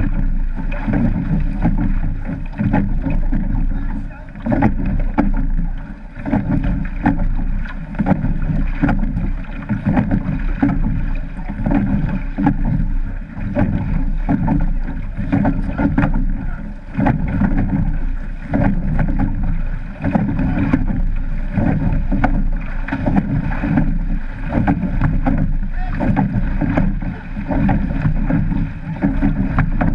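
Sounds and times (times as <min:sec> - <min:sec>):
water rushing along boat hull: 0:00.0 - 0:29.9.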